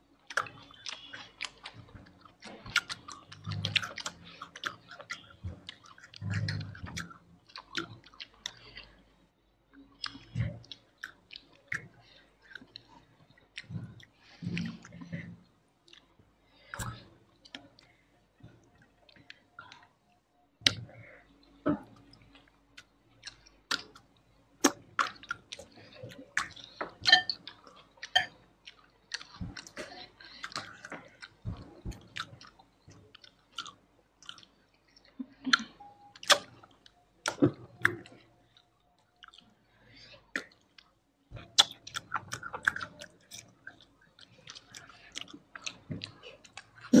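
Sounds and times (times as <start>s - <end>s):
wet chewing and mouth smacks: 0.1s - 9.1s, 9.7s - 47.0s.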